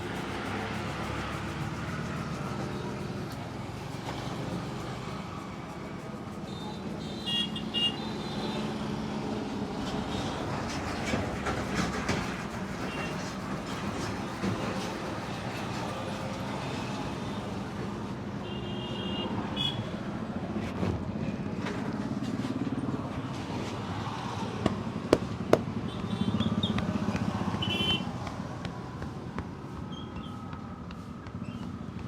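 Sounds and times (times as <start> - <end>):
motorcycles and cars passing: 0.0 - 18.4, 19.2 - 32.0.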